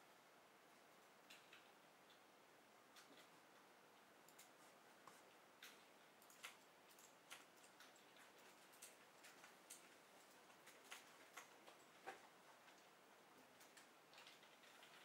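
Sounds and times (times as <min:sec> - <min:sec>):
faint irregular clicks and ticks: 0:00.4 - 0:15.0.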